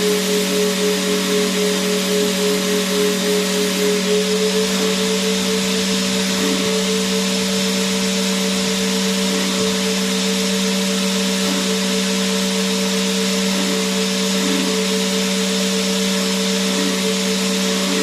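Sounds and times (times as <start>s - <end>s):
vacuum cleaner motor running: 0.0s - 18.0s.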